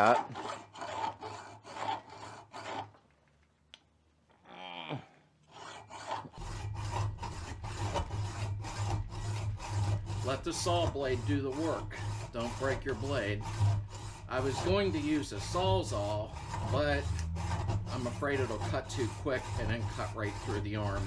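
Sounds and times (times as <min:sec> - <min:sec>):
hacksaw cutting through steel: 0:00.0 - 0:03.0, 0:05.5 - 0:21.0.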